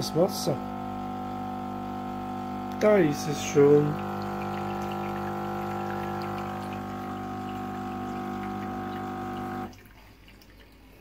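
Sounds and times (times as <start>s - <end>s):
espresso machine pump humming: 0.0s - 9.7s
coffee running into glass cup: 0.7s - 9.7s.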